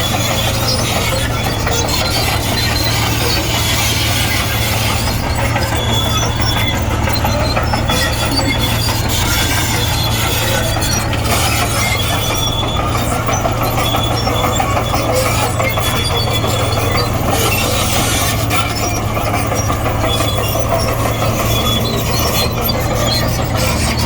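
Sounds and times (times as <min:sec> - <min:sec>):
bulldozer diesel drone: 0:00.0 - 0:24.0
steel tracks squealing: 0:00.0 - 0:24.0.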